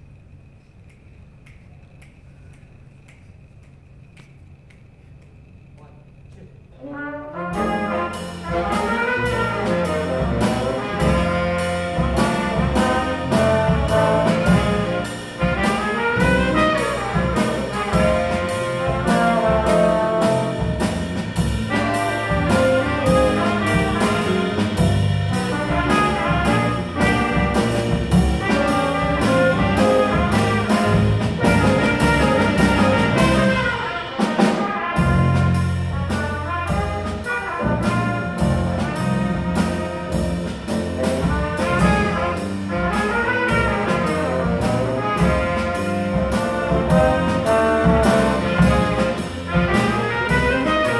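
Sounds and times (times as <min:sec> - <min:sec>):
piano: 0:00.0 - 0:50.9
trumpets: 0:05.8 - 0:50.9
alto saxophone: 0:06.4 - 0:50.9
drum kit with cymbal beat: 0:07.3 - 0:50.9
electric bass: 0:07.6 - 0:34.2, 0:34.8 - 0:50.9.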